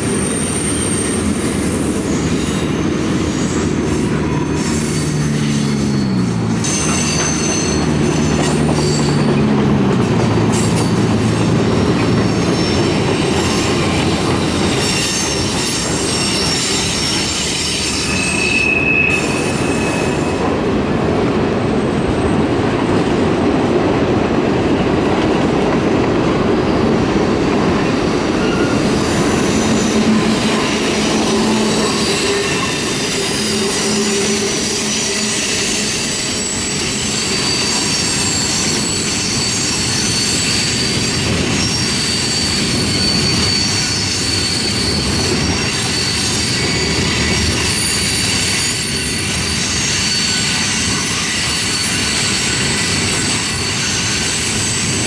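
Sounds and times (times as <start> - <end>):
high-pitched wheel squeal: 0.0 - 21.7, 28.0 - 55.0
train wheels rumbling on rail: 0.0 - 55.0.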